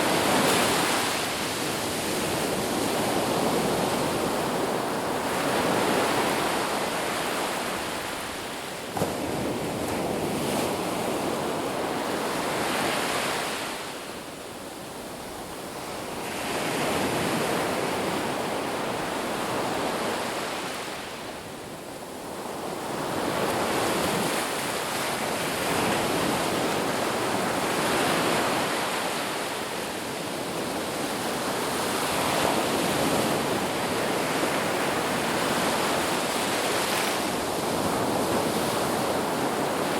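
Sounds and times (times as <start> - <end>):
sea waves washing in surf: 0.0 - 39.9.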